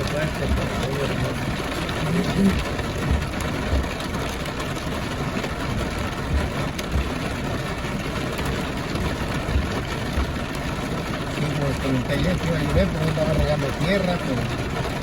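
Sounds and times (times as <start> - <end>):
heavy rain hissing: 0.0 - 15.0
low rumbles: 0.0 - 15.0.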